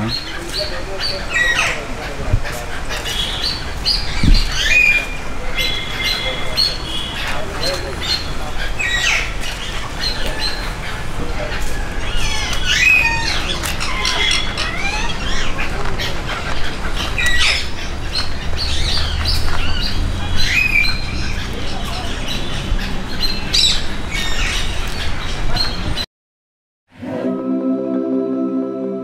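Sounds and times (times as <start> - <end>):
parrots squawking: 0.0 - 24.7.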